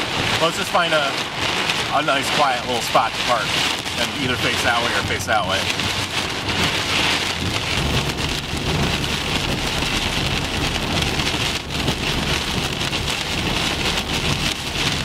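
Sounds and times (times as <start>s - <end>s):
heavy rain on car roof: 0.0s - 15.0s
low road rumble: 0.0s - 15.0s.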